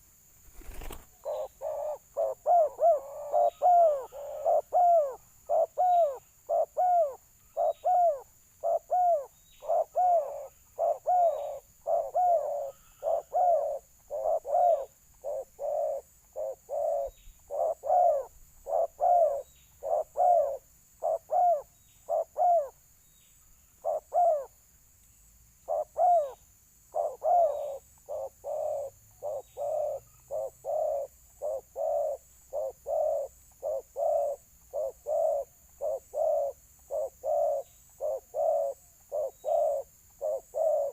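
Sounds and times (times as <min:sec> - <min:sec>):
doves cooing: 0:00.6 - 0:22.8, 0:23.8 - 0:24.5, 0:25.7 - 0:40.9.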